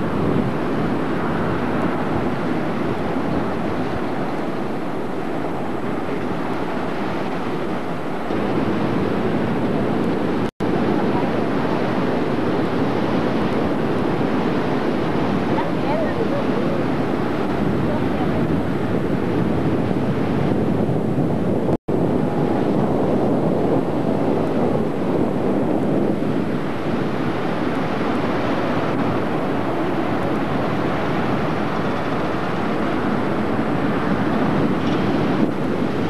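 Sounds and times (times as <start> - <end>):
surf breaking on beach: 0.0 - 36.0
wind buffeting microphone: 0.0 - 36.0.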